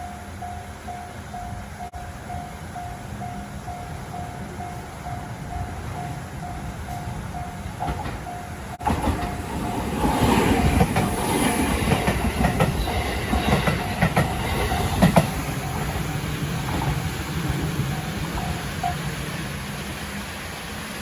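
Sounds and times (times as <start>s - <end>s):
level-crossing warning bell: 0.0s - 19.6s
train rumble and wheel clicks: 0.0s - 21.0s.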